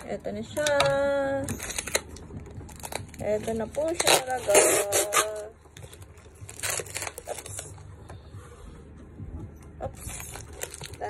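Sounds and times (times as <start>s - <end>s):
plastic wrapping crinkling: 0.0s - 8.0s, 9.9s - 11.0s.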